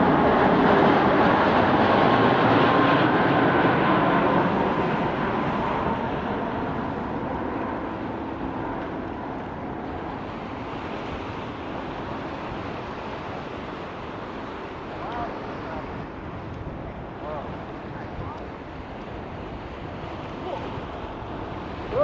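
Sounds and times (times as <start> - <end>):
faint engine whine: 0.0 - 22.0
jet airliner engines rushing: 0.0 - 22.0.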